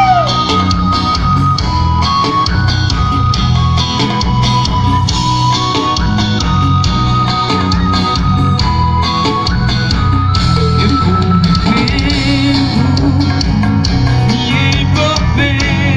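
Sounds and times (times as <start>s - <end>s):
instrumental band music: 0.0s - 15.9s.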